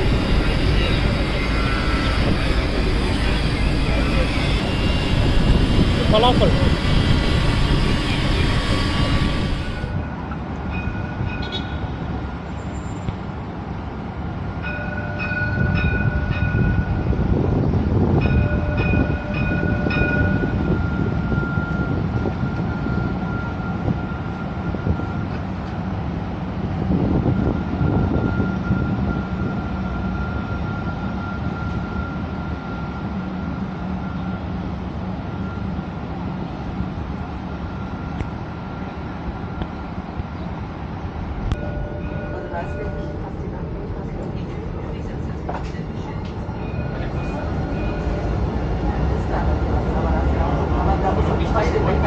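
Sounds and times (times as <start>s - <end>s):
train rumbling: 0.0s - 52.0s.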